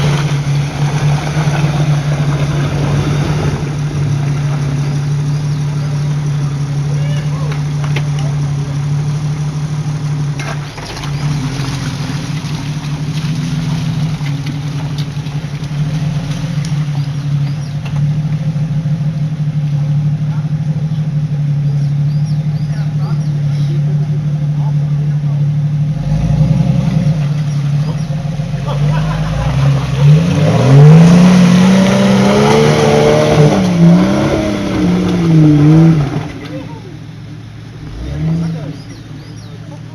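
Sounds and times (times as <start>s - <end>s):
vehicle engine running at low revs: 0.0s - 39.9s.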